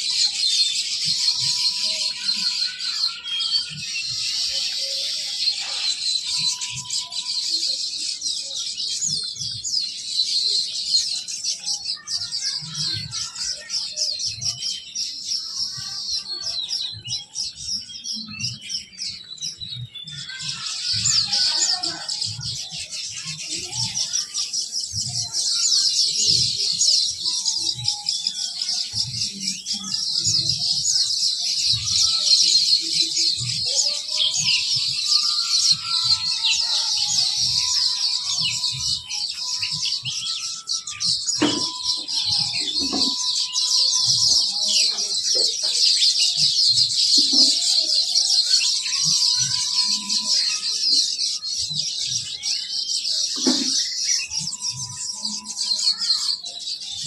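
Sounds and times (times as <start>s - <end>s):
small birds chirping: 0.0s - 57.0s
whistled bird notes: 0.0s - 57.0s.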